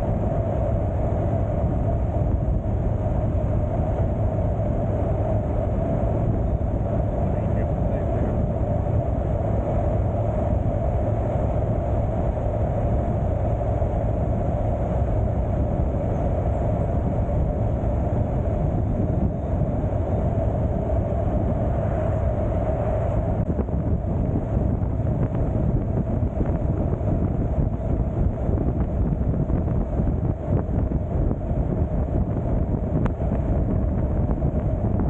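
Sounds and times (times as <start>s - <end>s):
motorcycle engine and road drone: 0.0s - 35.0s
wind rumbling on microphone: 0.0s - 35.0s.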